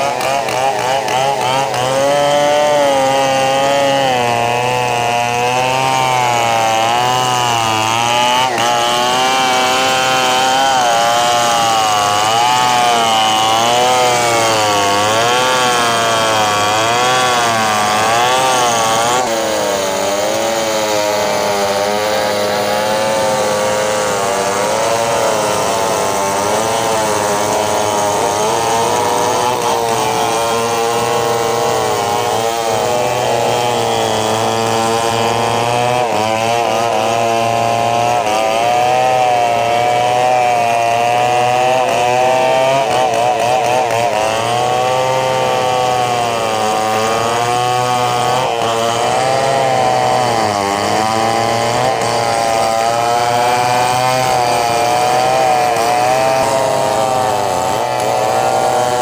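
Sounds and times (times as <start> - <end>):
chainsaw cutting through log: 0.0 - 59.0.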